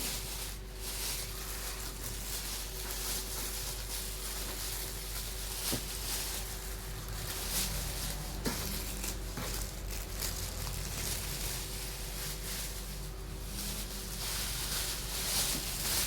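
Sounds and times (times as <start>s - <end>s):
background hum and hiss: 0.0s - 16.0s
handling rustling: 0.0s - 16.0s.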